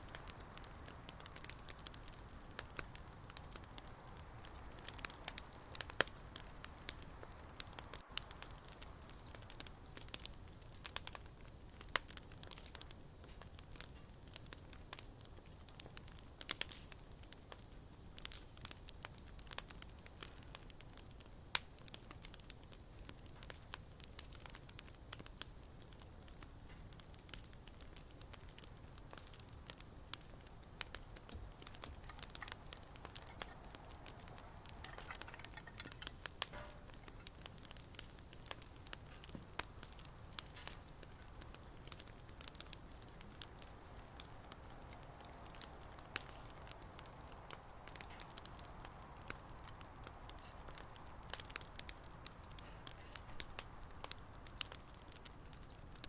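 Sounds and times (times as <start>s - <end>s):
bonfire crackling: 0.0s - 56.0s
low steady hiss: 0.0s - 56.0s
sharp pops and snaps: 0.0s - 56.0s.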